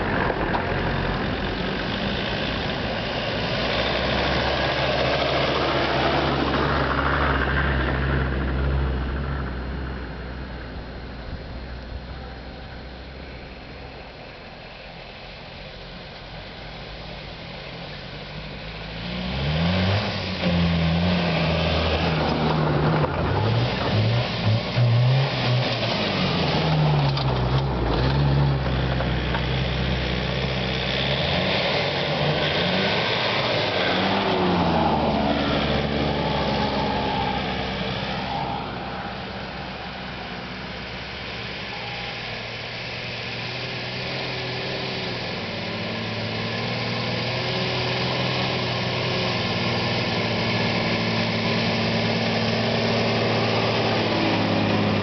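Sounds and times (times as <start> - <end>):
car engine revving past: 0.0 - 10.1, 18.9 - 55.0
car engine running at low speed: 0.0 - 55.0.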